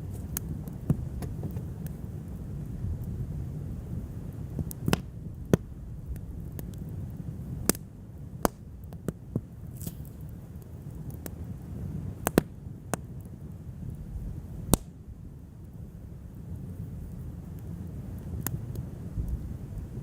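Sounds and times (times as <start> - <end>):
low steady rumble: 0.0 - 20.0
wood fire crackling and popping: 0.0 - 20.0.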